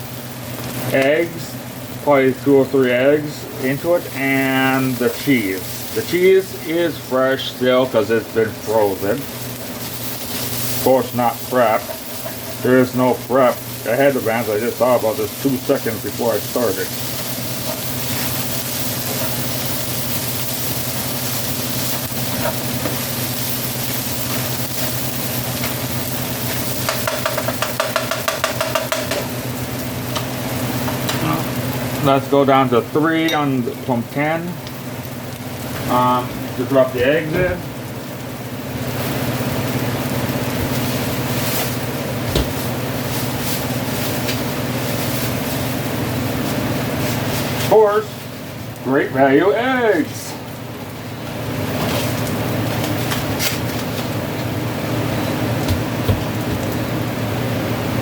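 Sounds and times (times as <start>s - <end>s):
steady low hum: 0.0s - 49.2s
vegetables sizzling in a frying pan: 0.0s - 58.0s.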